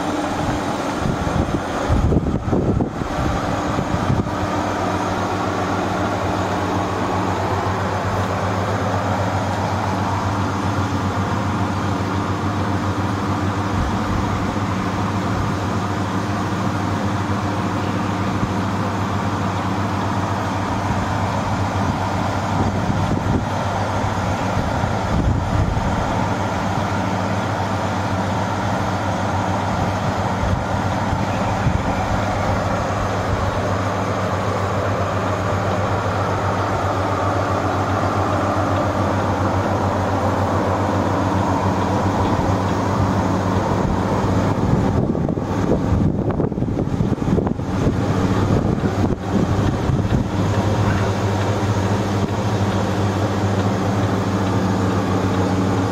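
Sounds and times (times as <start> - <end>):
steady machine hum: 0.0 - 55.9.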